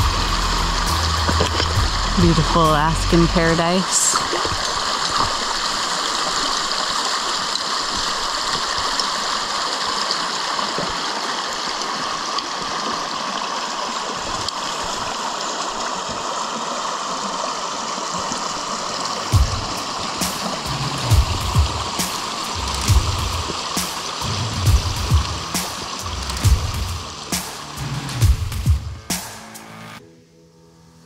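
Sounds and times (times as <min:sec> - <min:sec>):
creek babbling over stones: 0:00.0 - 0:29.0.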